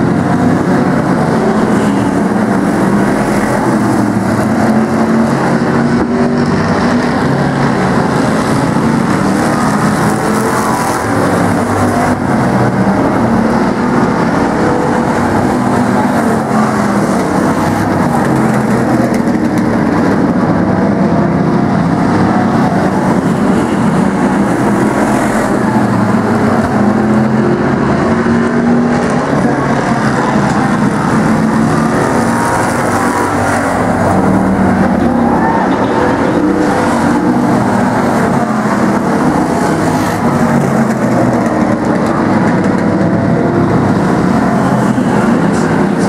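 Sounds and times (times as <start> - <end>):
race engines droning: 0.0 - 46.0.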